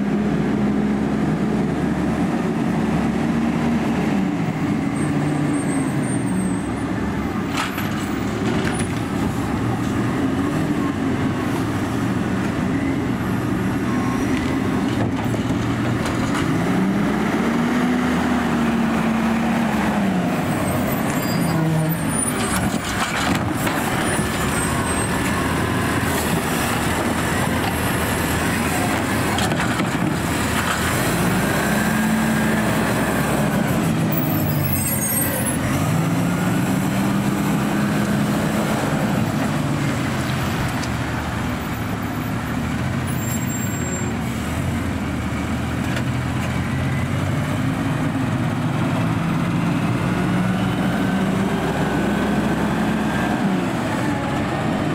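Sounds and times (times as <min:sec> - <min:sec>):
diesel garbage truck engine revving: 0:00.0 - 0:54.9.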